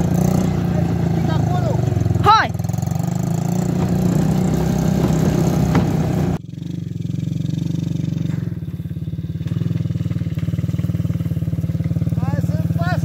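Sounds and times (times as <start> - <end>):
quad bike engine running: 0.0 - 13.0.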